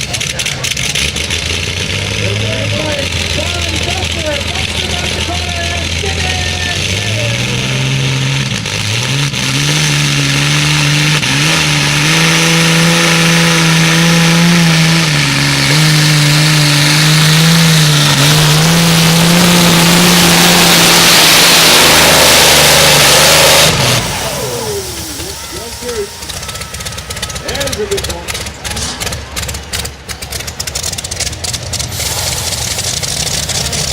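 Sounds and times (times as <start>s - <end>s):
tractor engine at high revs: 0.0s - 33.9s.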